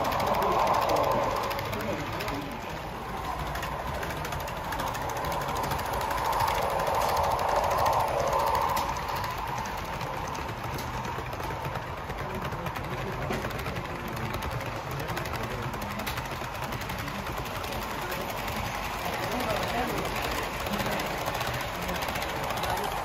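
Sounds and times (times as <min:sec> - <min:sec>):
model trains rattling on track: 0:00.0 - 0:23.0.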